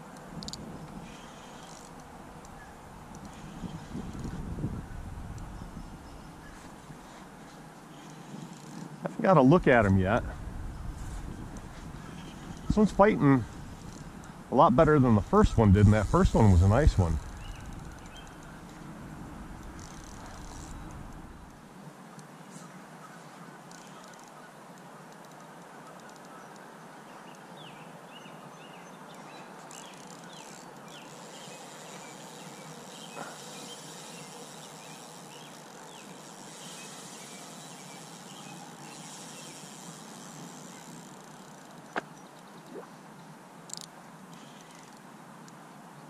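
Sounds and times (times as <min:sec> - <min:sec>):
faint outdoor hiss: 0:00.0 - 0:46.0.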